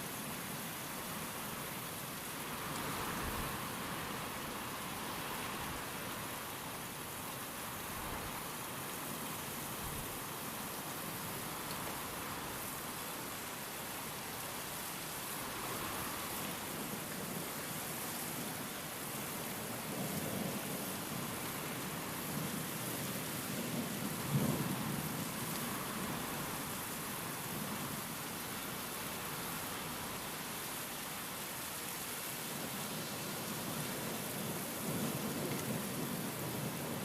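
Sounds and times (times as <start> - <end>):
heavy rain: 0.0 - 37.0
wind: 0.0 - 37.0.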